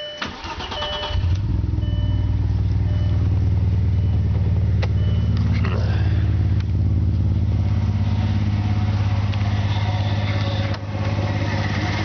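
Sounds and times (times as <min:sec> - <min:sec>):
car engine idling roughly: 0:00.2 - 0:12.0.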